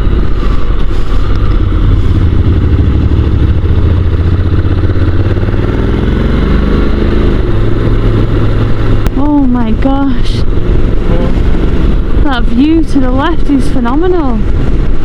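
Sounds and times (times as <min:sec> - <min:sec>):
motorcycle engine: 0:00.0 - 0:15.0
wind and road rumble: 0:00.0 - 0:15.0.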